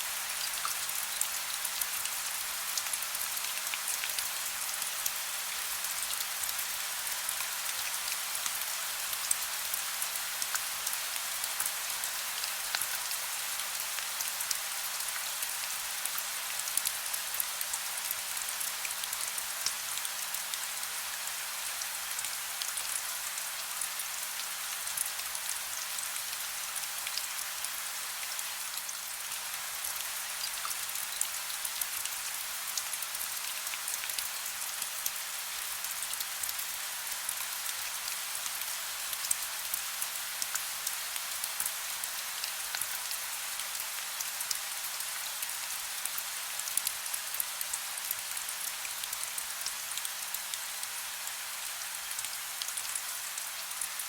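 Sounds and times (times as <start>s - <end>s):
soft rain hissing: 0.0s - 54.0s.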